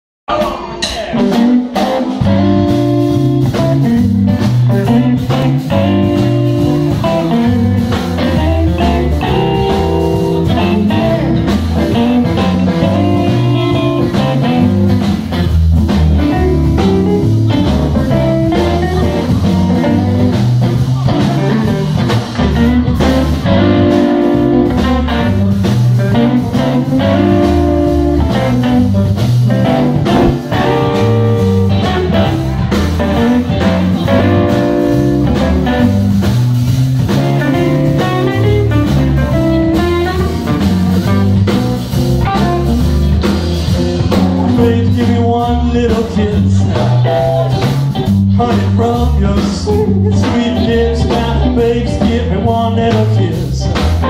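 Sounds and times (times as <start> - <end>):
bass guitar line: 0.3 - 54.0
drum kit: 0.3 - 54.0
electric guitar phrases: 1.0 - 54.0.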